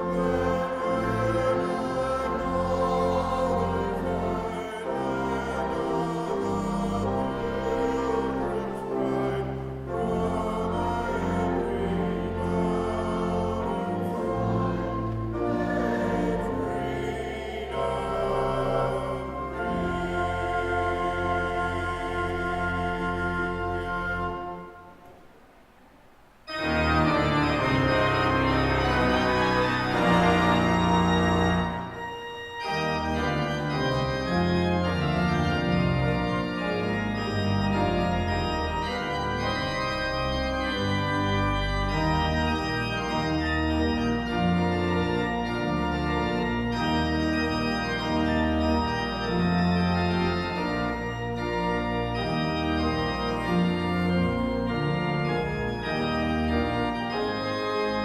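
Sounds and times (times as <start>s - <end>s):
organ playing chords: 0.0s - 25.5s, 26.5s - 58.0s.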